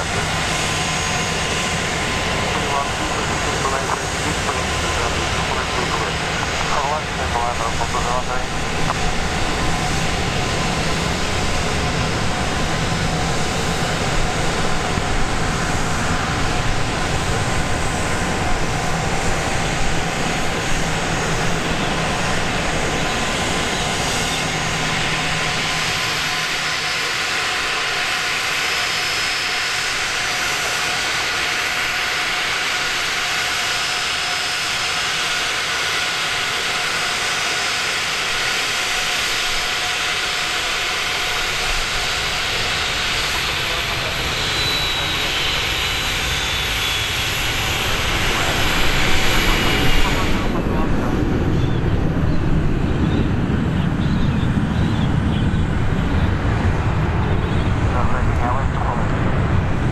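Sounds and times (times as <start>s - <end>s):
jet engine whine and hiss: 0.0s - 59.9s.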